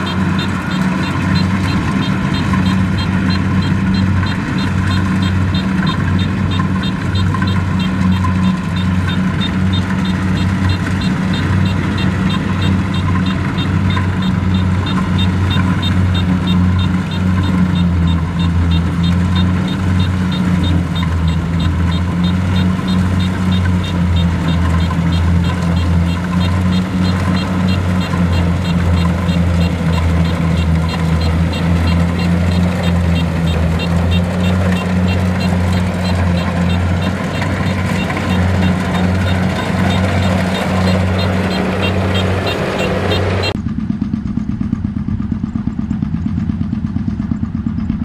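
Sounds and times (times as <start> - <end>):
high machinery ticking: 0.0 - 43.6
combine harvester engine drone: 0.0 - 48.0.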